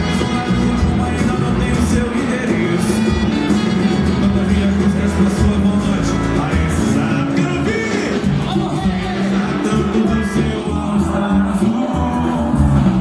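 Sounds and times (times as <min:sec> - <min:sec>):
band playing: 0:00.0 - 0:13.0
bass line: 0:00.0 - 0:13.0
dense percussion: 0:00.0 - 0:13.0.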